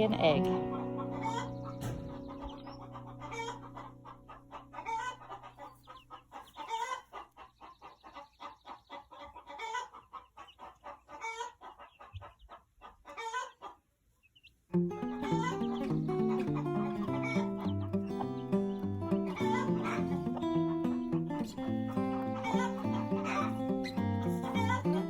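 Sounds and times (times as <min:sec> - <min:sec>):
hens cackling: 0:00.2 - 0:25.0
hen drawn-out squawk: 0:00.6 - 0:12.4, 0:15.0 - 0:21.0, 0:21.9 - 0:25.0.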